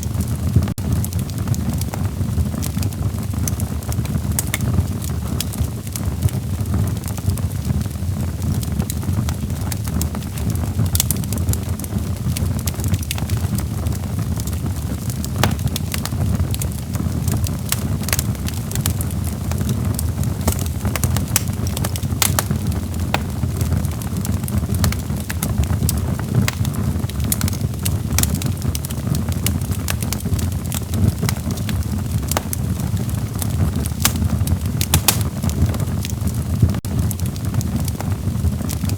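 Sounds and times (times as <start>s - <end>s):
low rumble of flames: 0.0s - 38.9s
wood crackling and popping: 0.0s - 38.9s.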